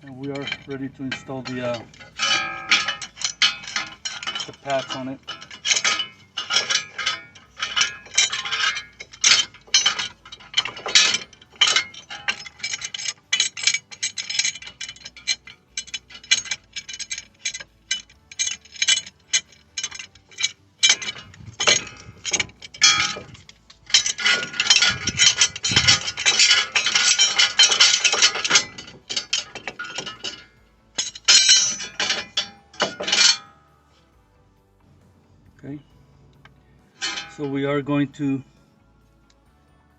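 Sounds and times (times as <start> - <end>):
metallic clicks and clinks of tools: 0.0 - 34.1, 36.3 - 37.6
dense rattling and scraping: 0.0 - 38.6.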